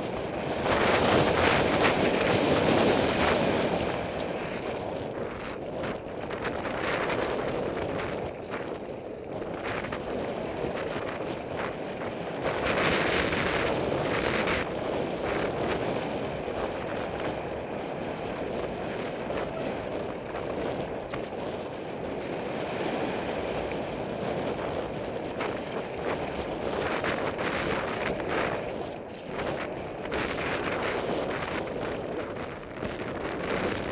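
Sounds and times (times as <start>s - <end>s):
bike rattling and knocking: 0.0s - 33.9s
tyres rolling on dirt: 0.0s - 33.9s
wind rushing over microphone: 0.0s - 33.9s.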